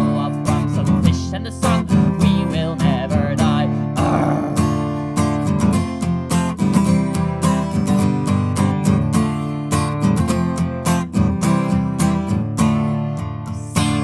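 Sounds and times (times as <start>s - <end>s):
strummed acoustic guitar chords: 0.0s - 14.0s.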